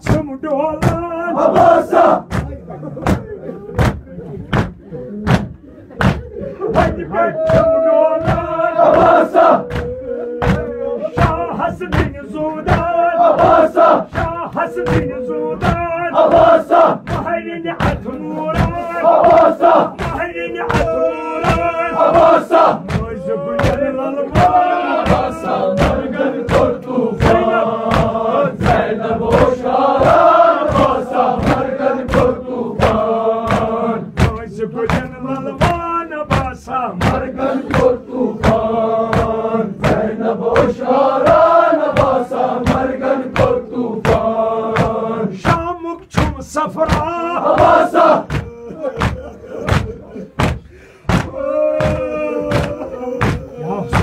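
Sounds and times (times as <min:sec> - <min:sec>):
sharp rhythmic slaps: 0:00.0 - 0:54.0
group chanting in unison: 0:00.7 - 0:54.0.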